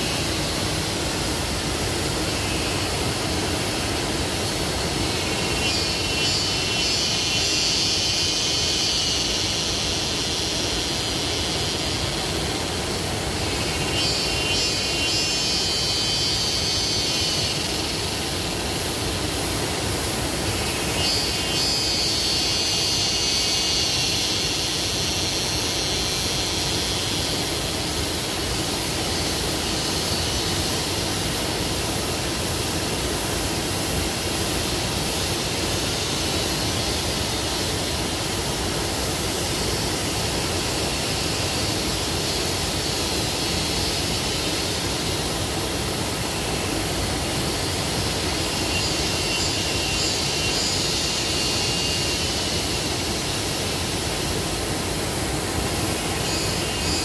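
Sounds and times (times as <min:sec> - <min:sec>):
high buzz: 0:00.0 - 0:57.0.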